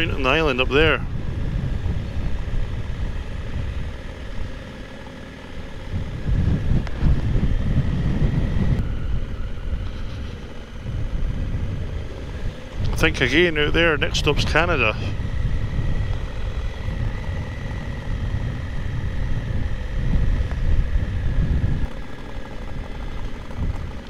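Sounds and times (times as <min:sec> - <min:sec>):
wind noise on microphone: 0:00.0 - 0:04.6, 0:05.6 - 0:24.0
motorcycle engine rumble: 0:00.0 - 0:24.0.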